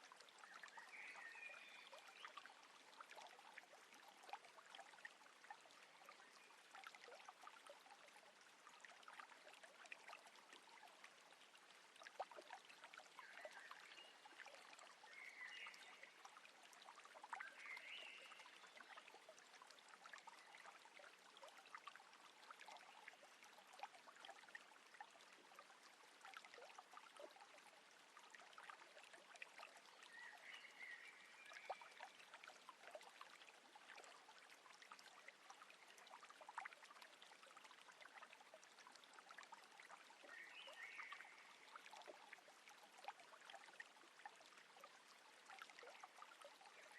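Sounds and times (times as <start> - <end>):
small ticking splashes: 0.0 - 46.9
water lapping and trickling: 0.0 - 46.9.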